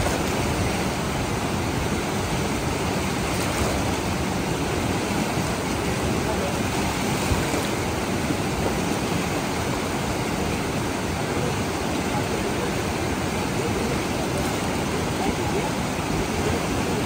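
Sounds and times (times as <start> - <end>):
river rushing over boulders: 0.0 - 17.0.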